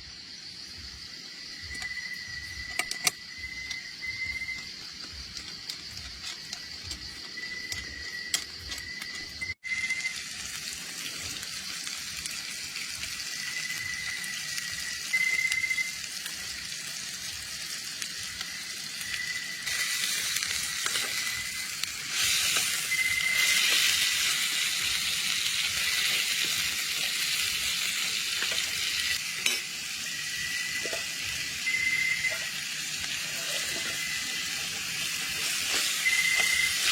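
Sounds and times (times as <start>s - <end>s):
meat sizzling in a pan: 0.1s - 36.9s.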